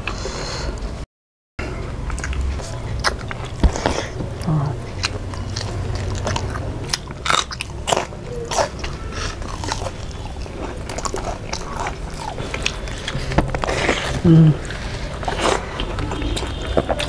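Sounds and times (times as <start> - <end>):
low steady hum: 1.6 - 17.0
crunchy chewing: 1.7 - 17.0.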